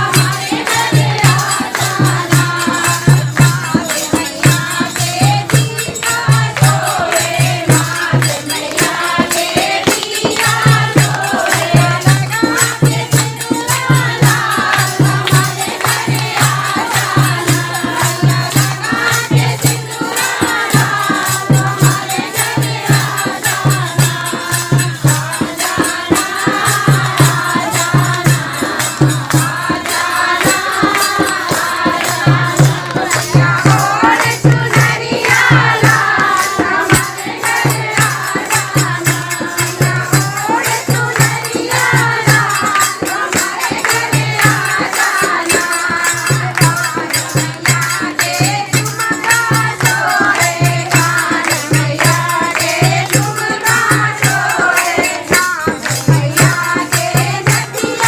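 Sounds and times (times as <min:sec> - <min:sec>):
hand-clapping: 0:00.0 - 0:58.0
jingling percussion: 0:00.0 - 0:58.0
women singing in chorus: 0:00.0 - 0:58.0.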